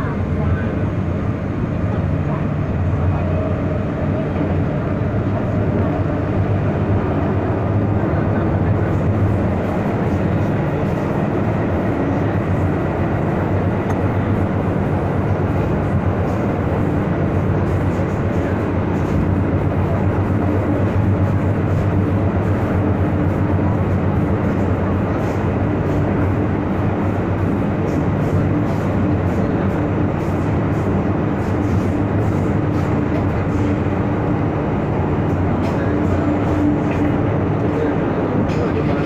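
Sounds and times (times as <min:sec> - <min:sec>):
metro train wheels rumbling on rail: 0:00.0 - 0:39.0
steady low hum: 0:00.0 - 0:39.0.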